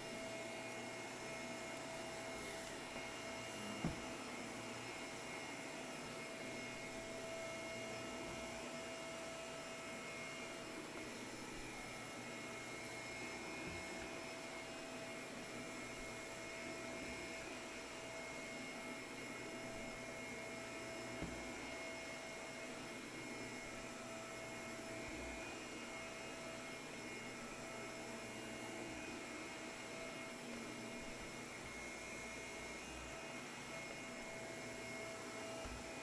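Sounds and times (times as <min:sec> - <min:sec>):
vacuum cleaner running on carpet: 0:00.0 - 0:36.0.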